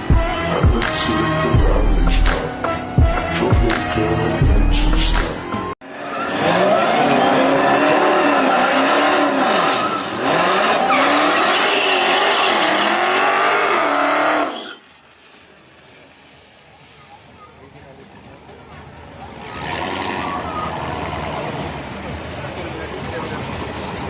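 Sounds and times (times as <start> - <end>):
drag race car engines revving: 0.0 - 14.6, 18.1 - 24.0.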